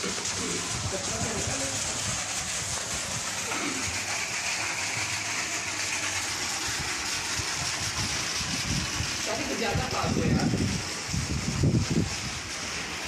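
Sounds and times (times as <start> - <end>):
water pouring into a pool: 0.0 - 13.0.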